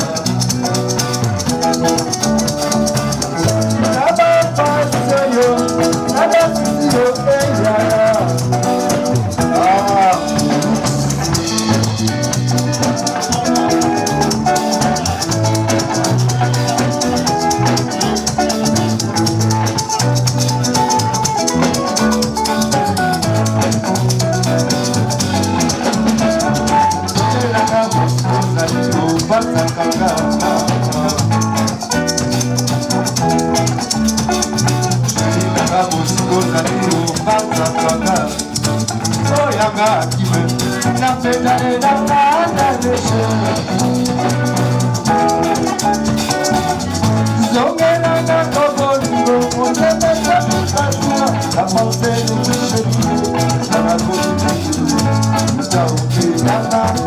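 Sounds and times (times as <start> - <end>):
bass: 0.0 - 57.0
drums: 0.0 - 57.0
electric guitars: 0.0 - 57.0.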